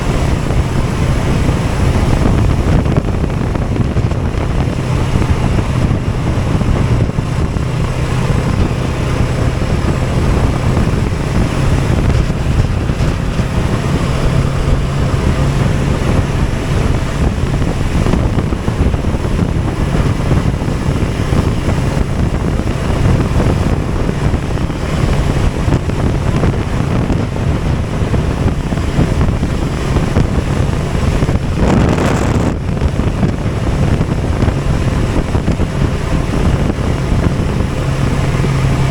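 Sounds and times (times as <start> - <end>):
vehicle engine running: 0.0 - 38.9
wind rushing over microphone: 0.0 - 38.9.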